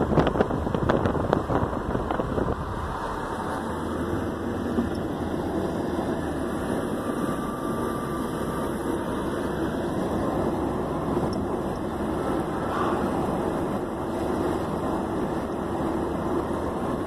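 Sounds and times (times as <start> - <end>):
car engine cruising: 0.0 - 17.0
tyres on road: 0.0 - 17.0.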